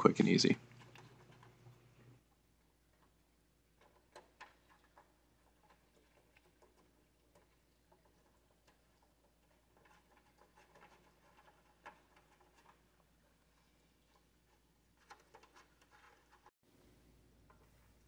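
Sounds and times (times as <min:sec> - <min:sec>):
plastic clicks and scrapes: 0:00.6 - 0:02.3, 0:02.9 - 0:16.5.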